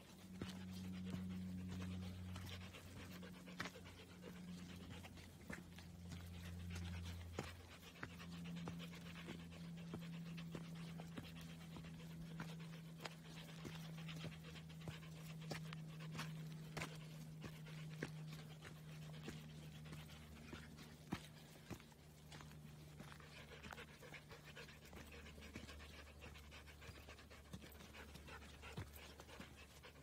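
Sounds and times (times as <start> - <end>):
faint low hum: 0.0 - 30.0
footsteps crunching on dirt: 0.0 - 30.0.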